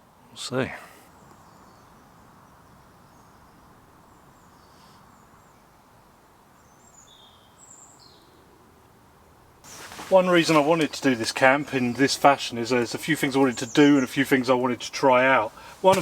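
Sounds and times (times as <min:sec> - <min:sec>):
faint woodland ambience: 0:00.0 - 0:16.0.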